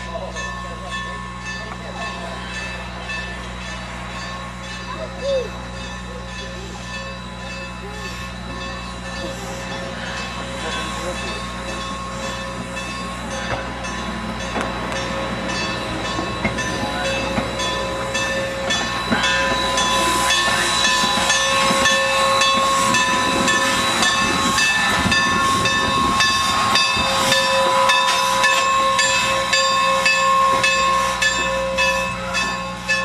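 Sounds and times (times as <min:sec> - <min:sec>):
steam train hissing: 0:00.0 - 0:33.0
train wheels clicking: 0:05.8 - 0:33.0.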